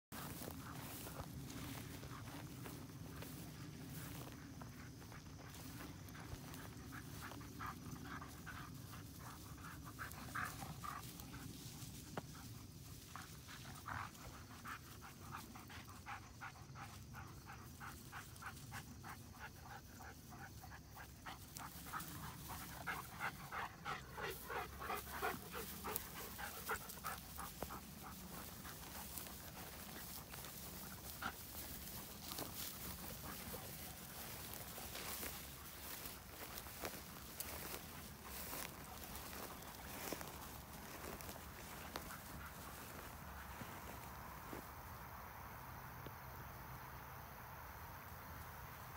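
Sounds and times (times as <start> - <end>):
dog panting: 0.2 - 44.0.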